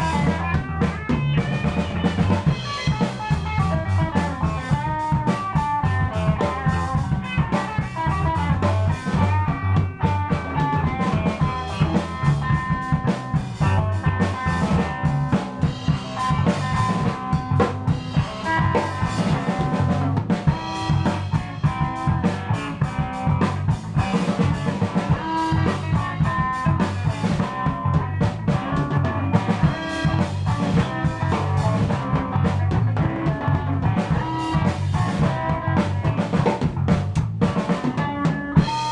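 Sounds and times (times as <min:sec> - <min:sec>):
drum kit beat: 0:00.0 - 0:38.9
guitar: 0:00.0 - 0:38.9
rock band jamming: 0:00.0 - 0:38.9.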